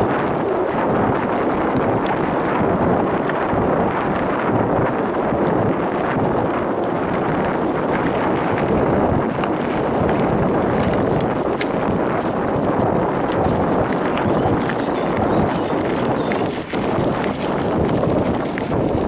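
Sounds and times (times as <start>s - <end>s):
bike tyres rumbling on gravel: 0.0s - 19.0s
gravel ticks: 0.0s - 19.0s
wind on microphone: 0.0s - 19.0s.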